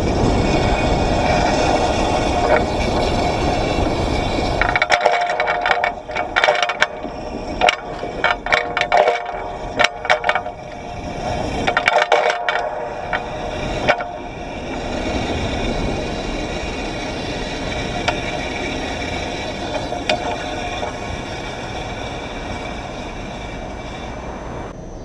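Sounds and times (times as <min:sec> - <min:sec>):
trolley pole clicking on wire: 0:00.0 - 0:24.2
streetcar rumbling with hum: 0:00.0 - 0:25.0.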